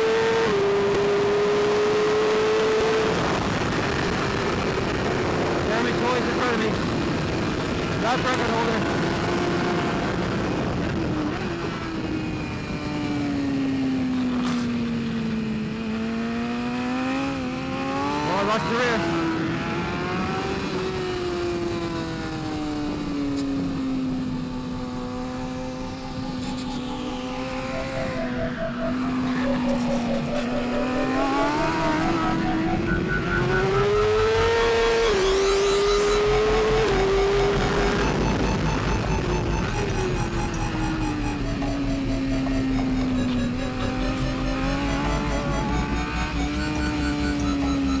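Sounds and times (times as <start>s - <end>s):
motorcycle engine at high revs: 0.0s - 10.6s, 11.2s - 27.9s, 33.6s - 48.0s.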